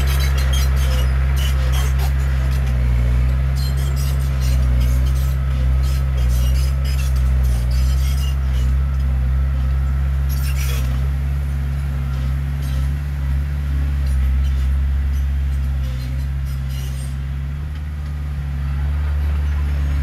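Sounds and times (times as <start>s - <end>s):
diesel machinery engine drone: 0.0s - 20.0s.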